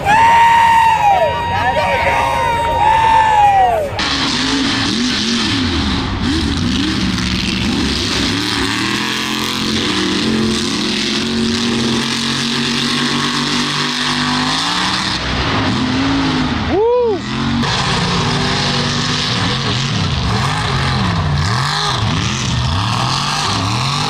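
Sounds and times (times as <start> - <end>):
truck engines at high revs: 0.0 - 24.0.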